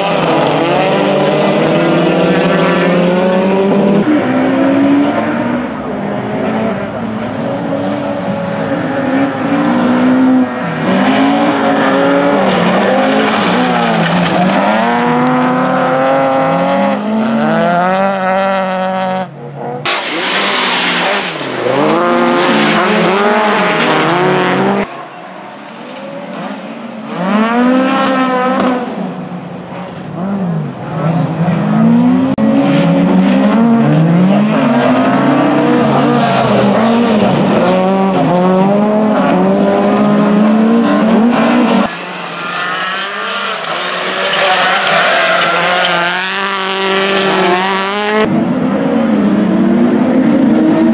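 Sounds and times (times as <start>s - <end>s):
racing car engines revving: 0.0s - 50.9s.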